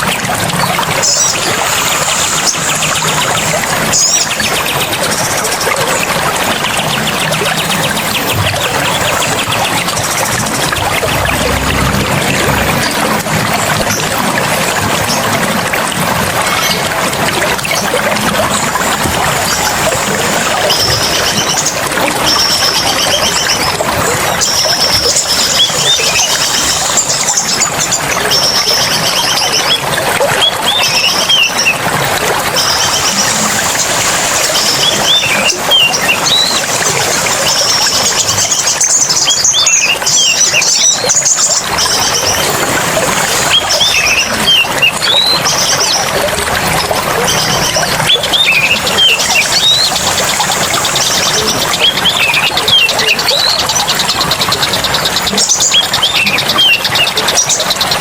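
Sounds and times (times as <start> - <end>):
songbirds calling: 0.0 - 15.7, 16.3 - 58.0
running water: 0.0 - 58.0.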